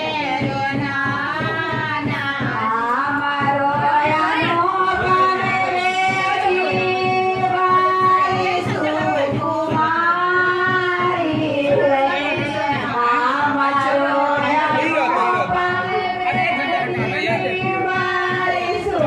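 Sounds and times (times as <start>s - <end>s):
steady beat: 0.0s - 19.0s
woman singing: 0.0s - 19.0s.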